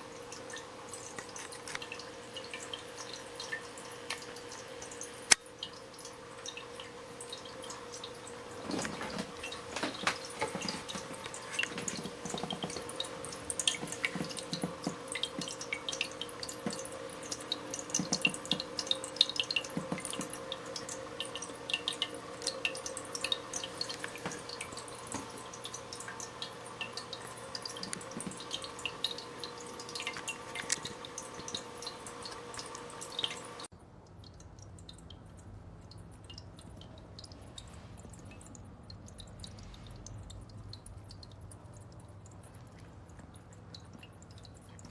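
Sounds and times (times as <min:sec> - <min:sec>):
pump hum: 0:00.0 - 0:44.9
water dripping into bowl: 0:00.0 - 0:44.9.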